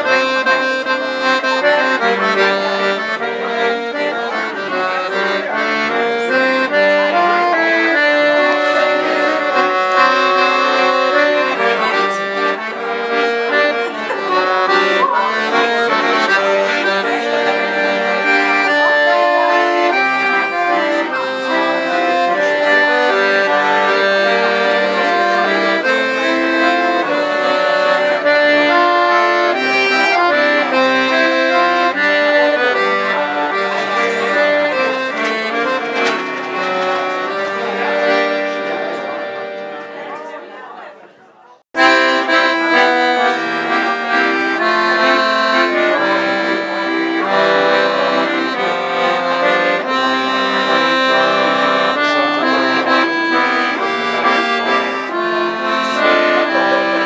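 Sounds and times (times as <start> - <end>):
folk tune on accordion: 0.0 - 41.0, 41.7 - 57.0.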